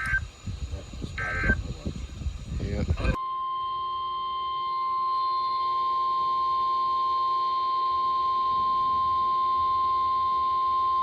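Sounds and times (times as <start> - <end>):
steady high-pitched alarm tone: 0.0 - 11.0.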